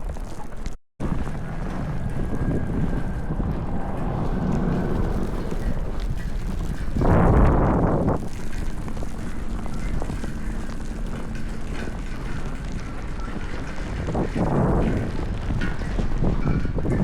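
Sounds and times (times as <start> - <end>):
wind buffeting microphone: 1.0 - 17.0.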